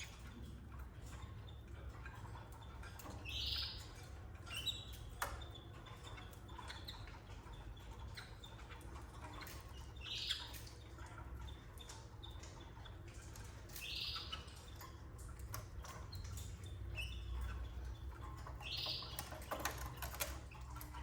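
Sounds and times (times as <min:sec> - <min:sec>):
thin chirp: 0:00.0 - 0:21.0.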